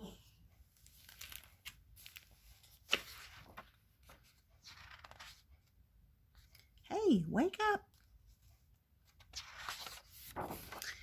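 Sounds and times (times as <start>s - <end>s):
paper pages rustling: 0.5s - 6.8s, 7.9s - 11.0s.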